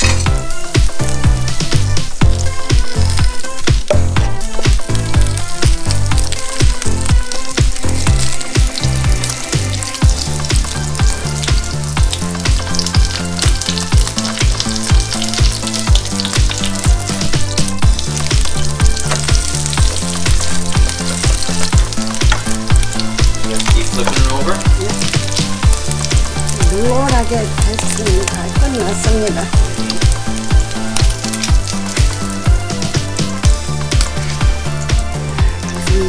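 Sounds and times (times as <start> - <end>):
pancakes sizzling in a pan: 0.0 - 35.7
background music with beat: 0.0 - 36.0.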